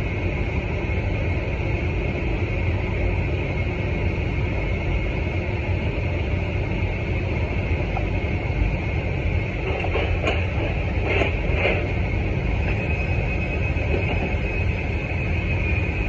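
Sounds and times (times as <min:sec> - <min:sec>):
machinery drone with whine: 0:00.0 - 0:16.0.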